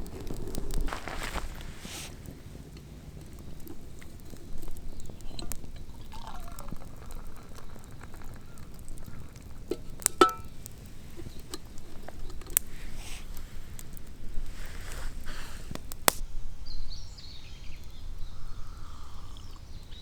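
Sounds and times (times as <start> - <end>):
small clicks and crackling: 0.0 - 16.3.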